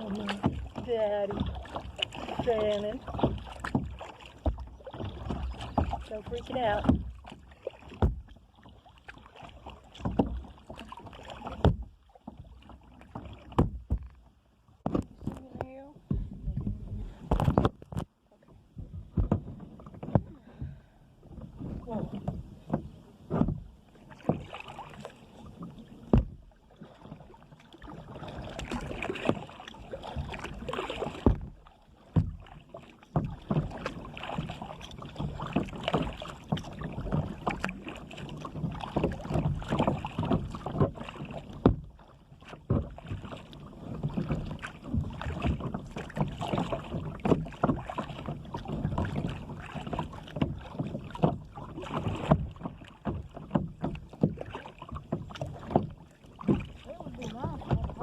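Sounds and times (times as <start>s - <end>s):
paddle splashing water: 0.0s - 58.0s.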